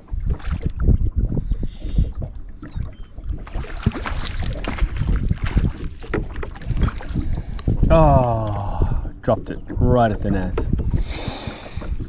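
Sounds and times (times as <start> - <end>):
water slapping against boat: 0.0 - 12.0
wind buffeting microphone: 0.0 - 12.0.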